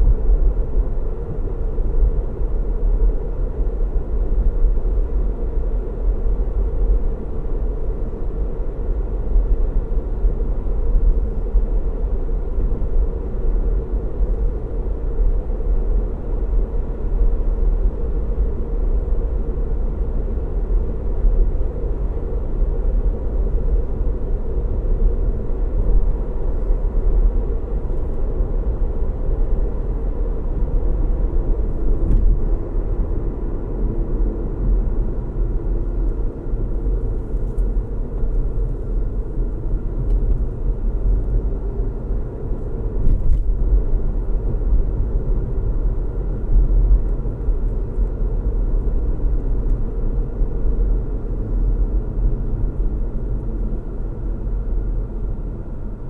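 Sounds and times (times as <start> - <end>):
car engine hum and road noise: 0.0 - 56.0.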